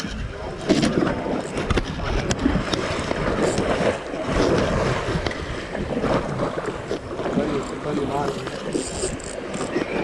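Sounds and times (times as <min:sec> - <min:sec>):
water washing against hull: 0:00.0 - 0:10.0
wind buffeting microphone: 0:00.0 - 0:10.0.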